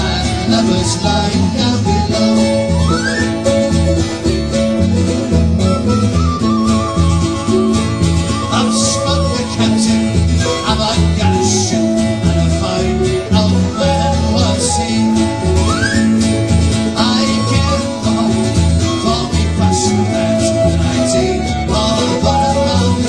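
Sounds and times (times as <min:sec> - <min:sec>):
acoustic guitar: 0:00.0 - 0:23.0
folk band playing a sea shanty: 0:00.0 - 0:23.0
steady bass line: 0:00.0 - 0:23.0.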